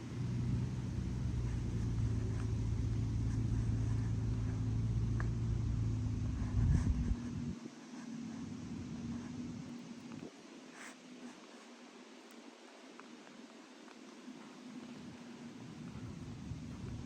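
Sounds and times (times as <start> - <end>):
vehicle engine running: 0.0 - 10.3, 13.3 - 17.0.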